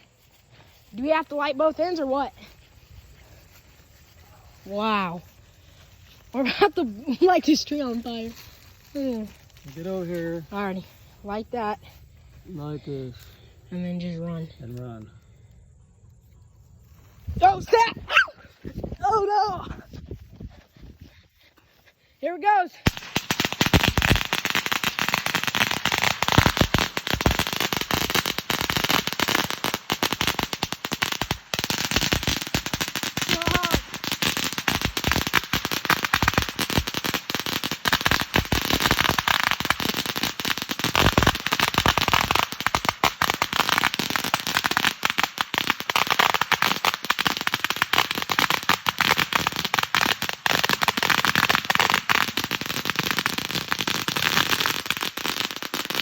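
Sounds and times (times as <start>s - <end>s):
firecrackers crackling: 0.0s - 15.1s, 22.8s - 56.0s.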